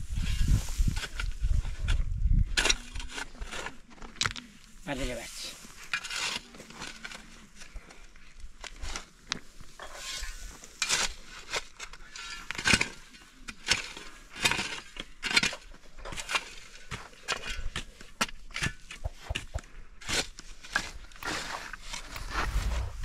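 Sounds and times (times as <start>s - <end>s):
scraping and knocking on stone and soil: 0.0s - 23.0s.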